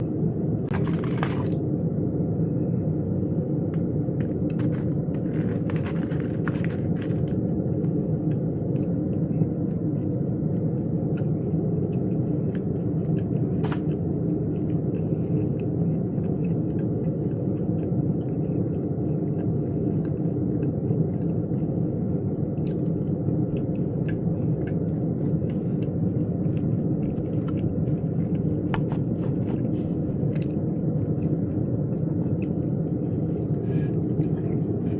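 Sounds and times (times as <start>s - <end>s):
low rumbling noise: 0.0s - 34.9s.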